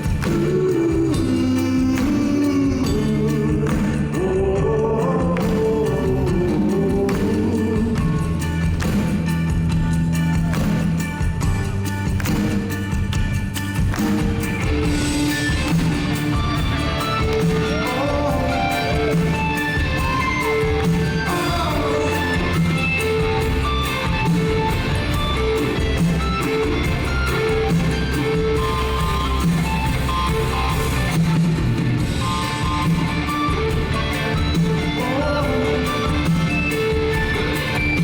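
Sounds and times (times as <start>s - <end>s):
guitar: 0.0s - 38.0s
live rock band playing: 0.0s - 38.0s
pulsing bass line: 0.0s - 38.0s.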